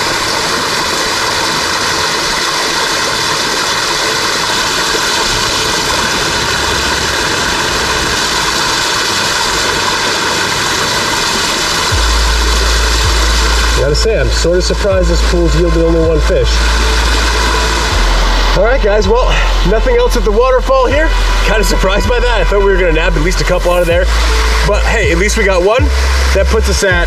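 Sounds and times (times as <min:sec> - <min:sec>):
low rumble: 0:00.0 - 0:27.0
waterfall rushing: 0:00.0 - 0:27.0.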